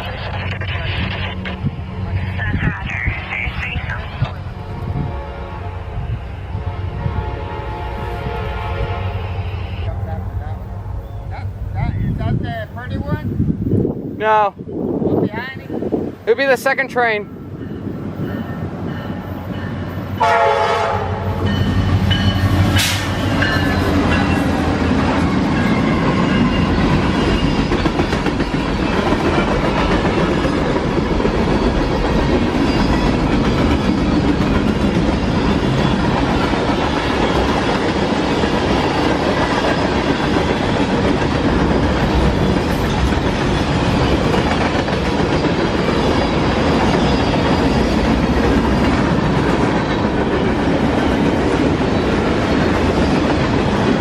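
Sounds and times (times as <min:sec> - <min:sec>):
freight train cars rumbling: 0:00.0 - 0:54.0.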